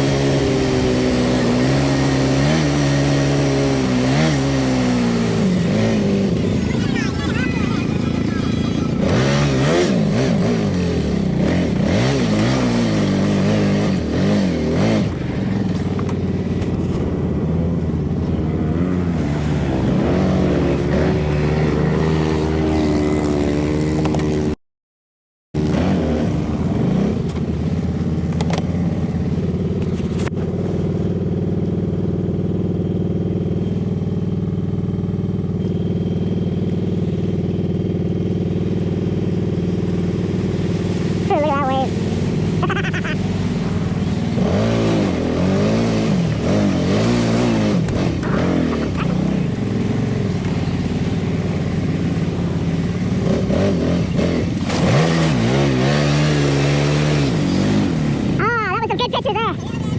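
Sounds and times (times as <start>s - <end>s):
atv engine running: 0.0s - 24.6s, 25.6s - 59.9s.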